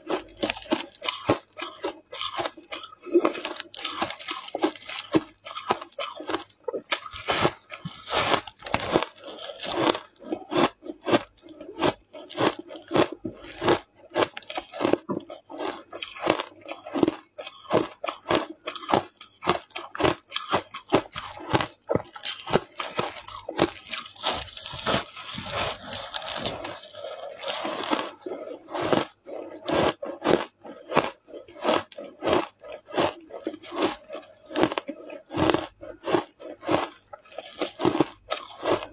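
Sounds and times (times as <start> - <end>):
ice being bitten and chewed: 0.0 - 38.9.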